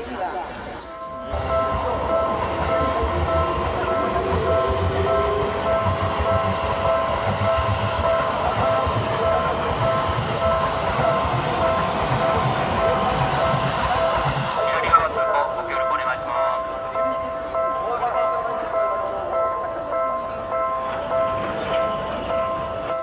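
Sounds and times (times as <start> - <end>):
train rumble with wheel clatter: 0.0 - 23.0
crossing alarm ringing: 0.8 - 23.0.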